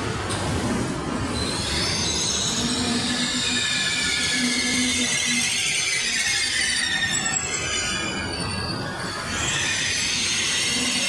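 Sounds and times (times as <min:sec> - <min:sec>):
train rumbling: 0:00.0 - 0:11.0
high train squeal: 0:01.2 - 0:11.0.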